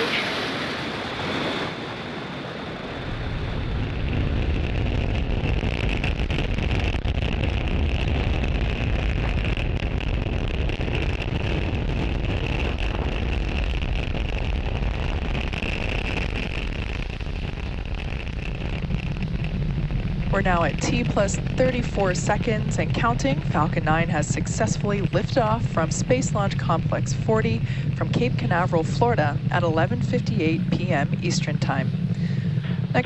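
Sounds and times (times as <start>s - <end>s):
rocket engines rumbling: 0.0s - 33.0s.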